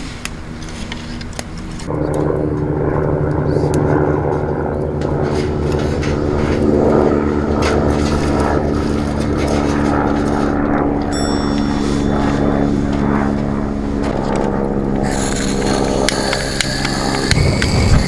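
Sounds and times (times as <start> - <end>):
engine droning steadily: 0.0 - 18.0.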